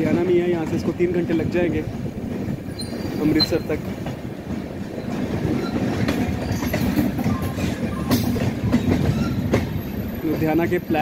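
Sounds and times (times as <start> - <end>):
train wheels rumbling on rails: 0.0 - 11.0
wheels clacking over rail joints: 0.0 - 11.0.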